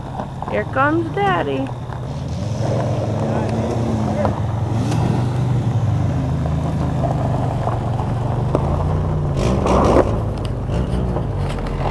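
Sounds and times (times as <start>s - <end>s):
car engine running: 0.0s - 11.9s
rough engine noise: 0.0s - 11.9s.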